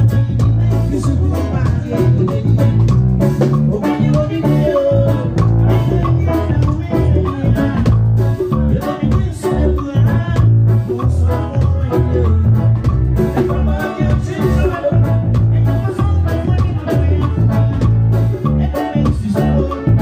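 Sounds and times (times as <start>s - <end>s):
drum kit: 0.0s - 20.0s
electric guitar: 0.0s - 20.0s
keyboard: 0.0s - 20.0s
man singing: 0.0s - 20.0s.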